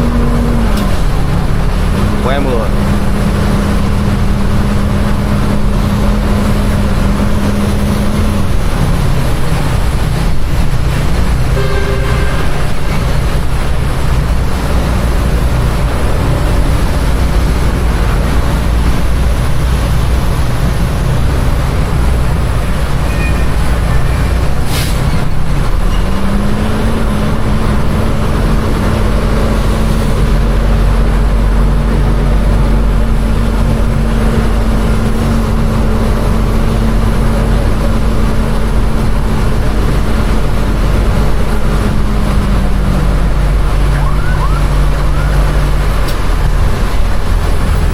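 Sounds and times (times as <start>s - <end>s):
diesel truck engine drone: 0.0s - 47.9s.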